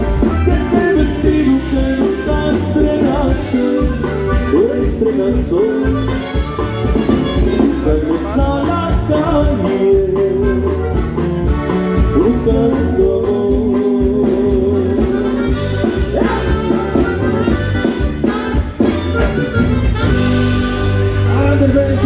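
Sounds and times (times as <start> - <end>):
saxophone melody: 0.0 - 9.0, 9.6 - 13.2, 14.6 - 22.0
live band playing dance music: 0.0 - 22.0.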